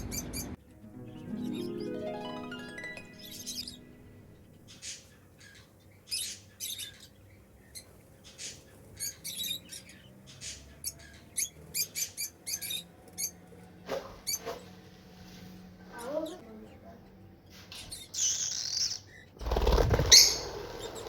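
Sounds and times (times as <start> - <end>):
lovebirds chirping: 0.0 - 13.5, 15.6 - 21.0.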